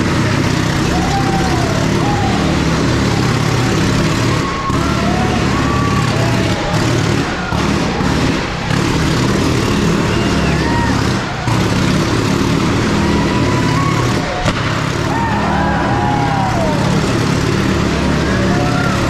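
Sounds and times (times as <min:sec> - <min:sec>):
motorcycle engine running hard: 0:00.0 - 0:19.0.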